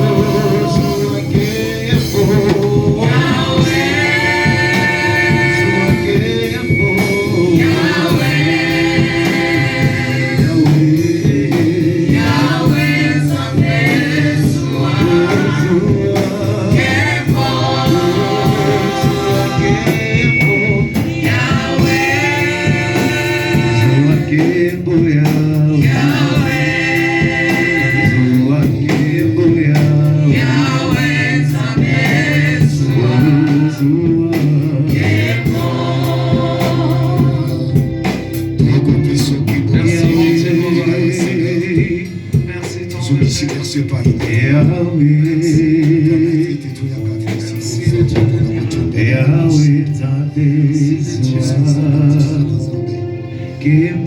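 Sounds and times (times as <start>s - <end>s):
instrumental accompaniment: 0.0s - 54.0s
voices singing: 0.0s - 54.0s.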